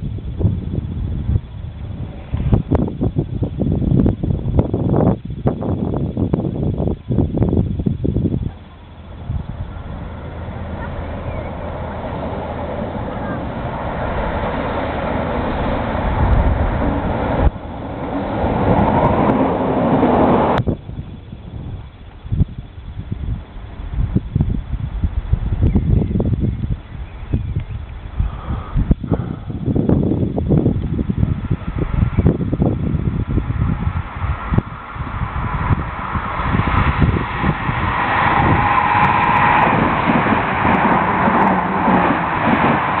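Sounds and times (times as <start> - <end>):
steady whine: 0.0 - 43.0
train rumbling on rails: 0.0 - 43.0.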